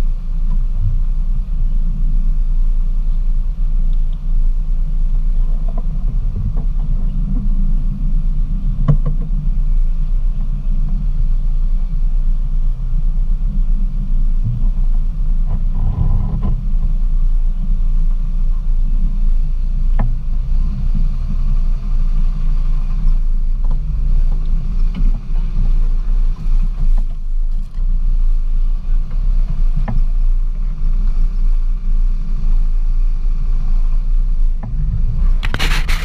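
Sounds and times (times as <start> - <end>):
engine and drivetrain rumble: 0.0 - 36.0.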